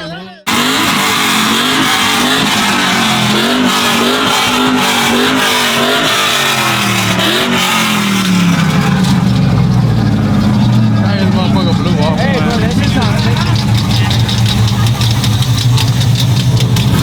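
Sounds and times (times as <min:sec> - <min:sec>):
vehicle engine revving: 0:00.4 - 0:17.0.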